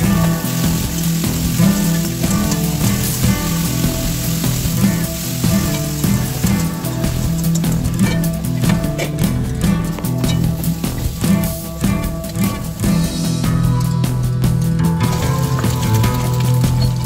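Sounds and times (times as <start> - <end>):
cabbage sizzling in a pan: 0.0 - 13.2, 15.0 - 17.0
background music: 0.0 - 17.0.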